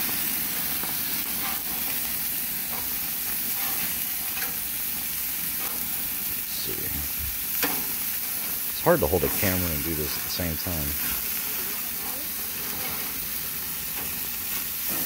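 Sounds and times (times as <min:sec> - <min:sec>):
burger patties sizzling on grill: 0:00.0 - 0:15.0.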